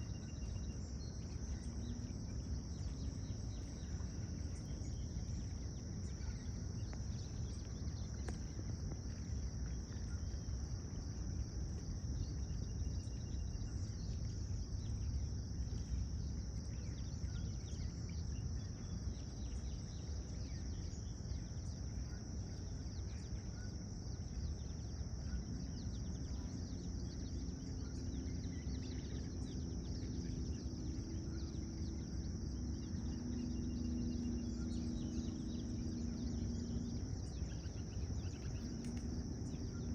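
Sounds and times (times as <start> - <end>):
insects chorus: 0.0 - 39.9
low hum: 0.0 - 39.9.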